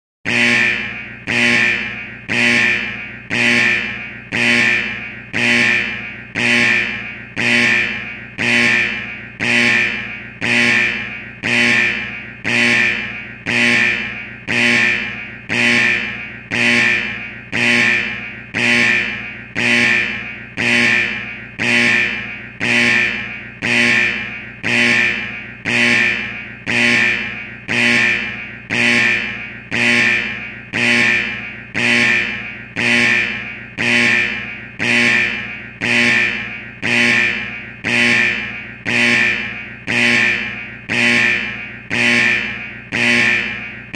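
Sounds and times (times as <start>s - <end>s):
pulsing alarm tone: 0.3s - 43.9s.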